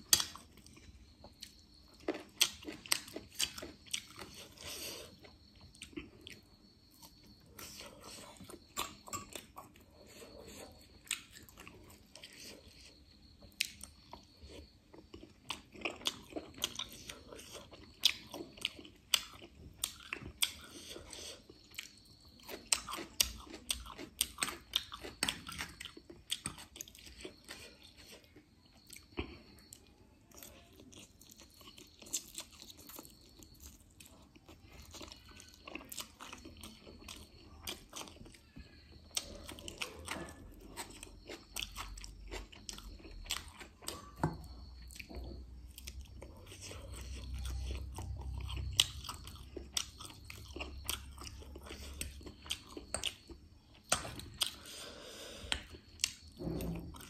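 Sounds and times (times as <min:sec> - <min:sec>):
person chewing noodles: 0:00.0 - 0:57.0.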